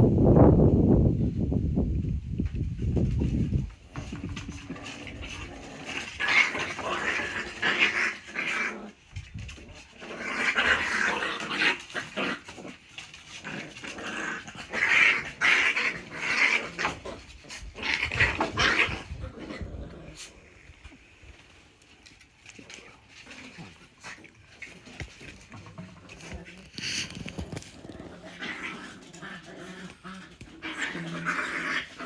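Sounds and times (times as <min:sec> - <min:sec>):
small dogs growling: 0:03.6 - 0:32.0.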